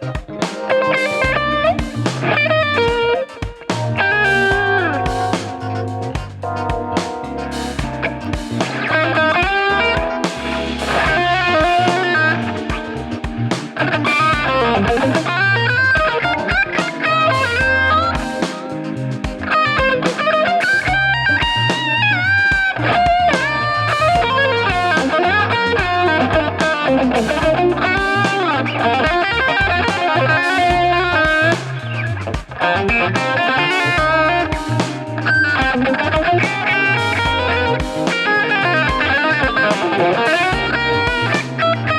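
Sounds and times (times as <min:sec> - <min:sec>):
electric guitar lead line: 0:00.0 - 0:41.9.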